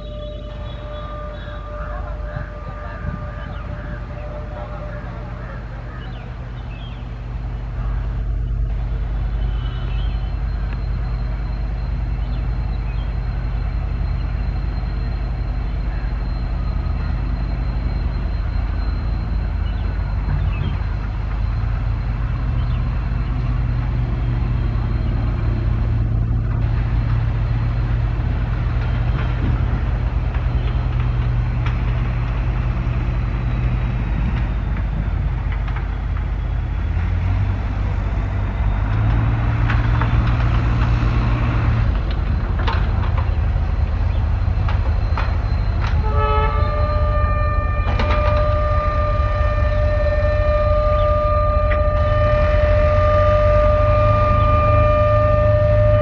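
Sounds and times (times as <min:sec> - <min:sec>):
locomotive engine droning: 0:00.0 - 0:56.0
wheels clattering on rails: 0:00.0 - 0:56.0.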